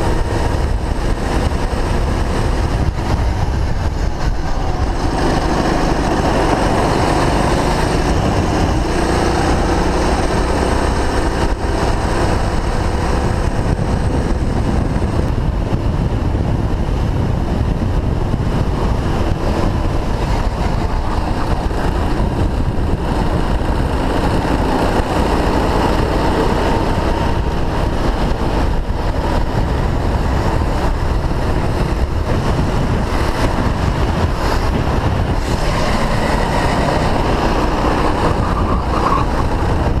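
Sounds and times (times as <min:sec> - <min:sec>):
go-kart engine revving: 0:00.0 - 0:40.0
wind across microphone: 0:00.0 - 0:40.0.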